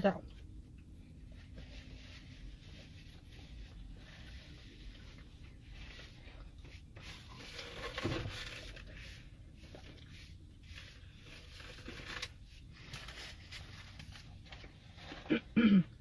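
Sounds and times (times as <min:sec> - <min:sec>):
faint crackly rustling: 0:00.0 - 0:15.4.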